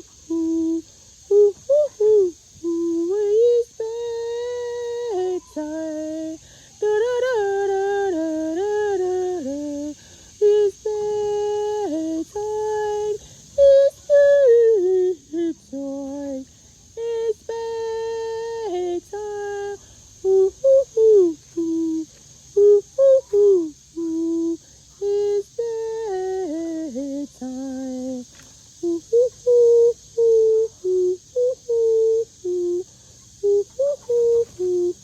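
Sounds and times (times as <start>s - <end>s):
woman humming a slow tune: 0.0s - 35.0s.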